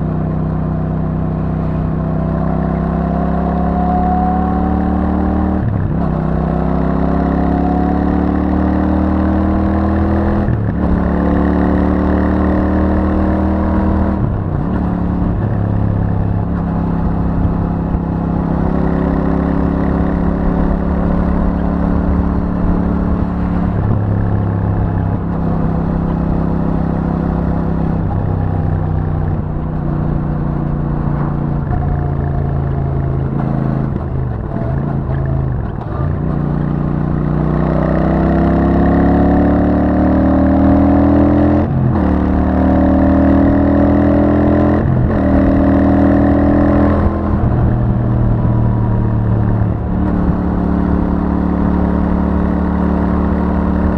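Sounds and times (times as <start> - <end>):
motorcycle engine running: 5.3 - 53.9.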